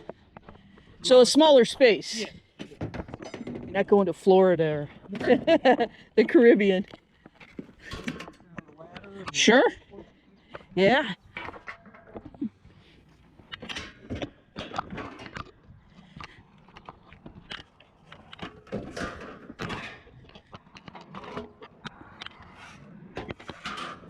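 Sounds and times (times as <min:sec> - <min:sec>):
rattles and bumps: 0:00.0 - 0:24.0.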